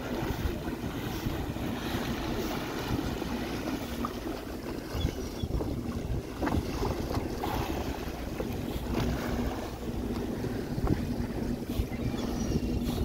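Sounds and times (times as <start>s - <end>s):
bow wave rushing through water: 0.0s - 13.0s
wind buffeting microphone: 0.0s - 13.0s.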